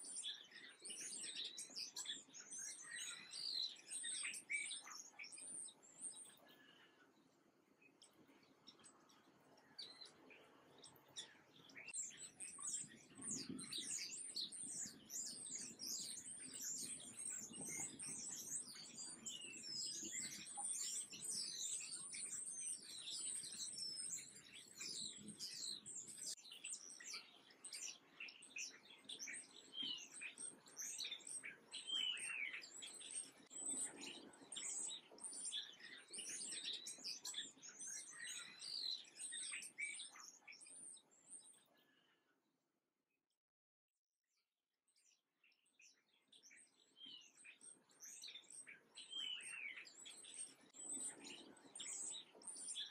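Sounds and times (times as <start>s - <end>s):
songbirds chirping: 0.0s - 42.4s, 44.9s - 52.9s.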